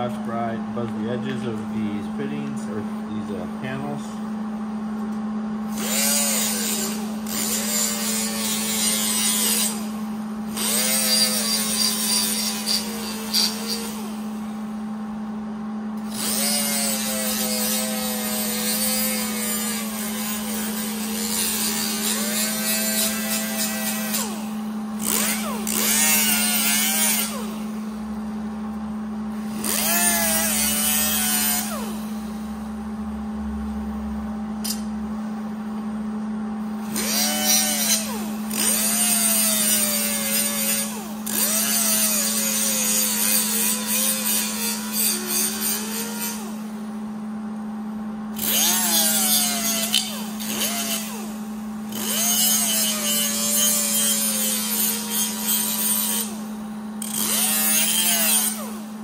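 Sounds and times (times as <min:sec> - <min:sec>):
steady low hum: 0:00.0 - 0:57.6
die grinder whining: 0:05.0 - 0:14.9, 0:16.0 - 0:32.7, 0:36.7 - 0:47.0, 0:48.3 - 0:59.0.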